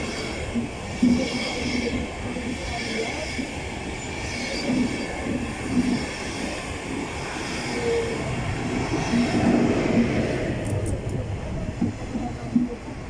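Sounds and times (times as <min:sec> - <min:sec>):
train running on rails: 0:00.0 - 0:13.0.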